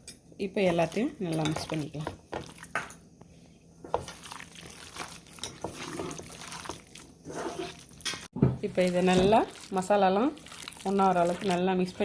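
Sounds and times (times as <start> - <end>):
squelching marinade mixing: 0.4 - 2.8, 3.7 - 12.0.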